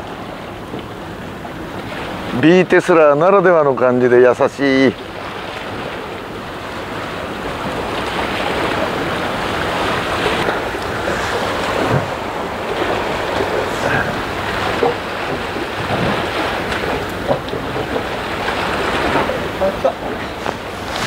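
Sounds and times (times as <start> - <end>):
wind and water rushing past hull: 0.0 - 21.0.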